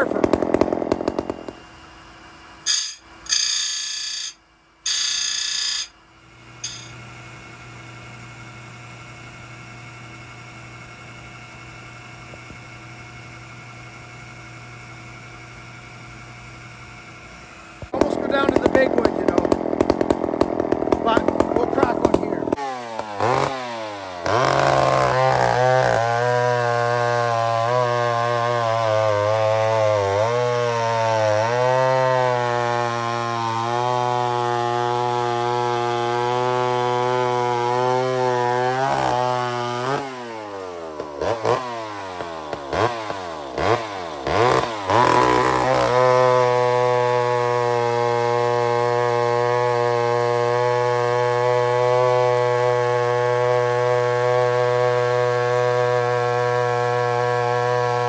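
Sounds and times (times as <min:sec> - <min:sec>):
chainsaw cutting log: 0:00.0 - 0:05.9, 0:06.6 - 0:07.0, 0:17.7 - 0:58.0.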